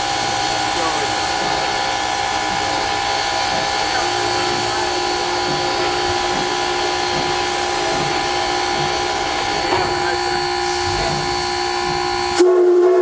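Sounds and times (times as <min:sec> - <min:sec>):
steady held tones: 0:00.0 - 0:13.0
steam locomotive hissing: 0:00.0 - 0:13.0.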